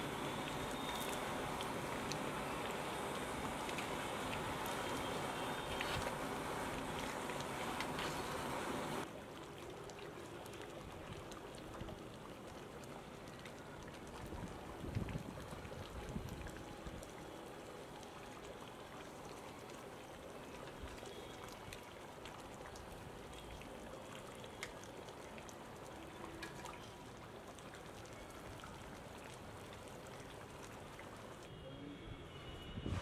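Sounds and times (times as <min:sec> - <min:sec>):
curry bubbling and popping: 0:00.0 - 0:31.5.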